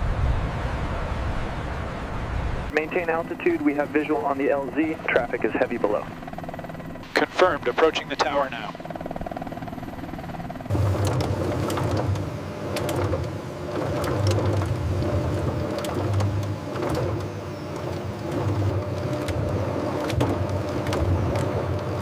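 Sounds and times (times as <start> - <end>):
heavy machinery droning: 2.7 - 22.0.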